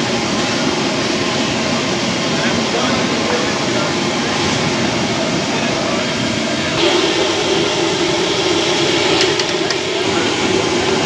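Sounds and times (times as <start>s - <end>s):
gas burner running: 0.0s - 11.0s
steady hum: 0.0s - 11.0s.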